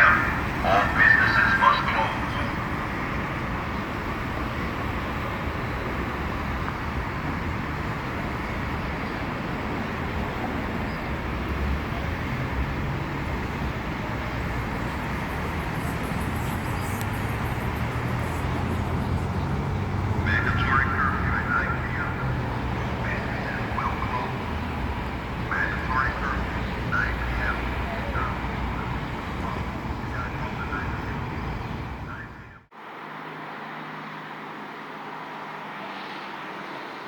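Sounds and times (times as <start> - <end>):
cars passing: 0.0 - 37.0
low engine hum: 0.0 - 37.0.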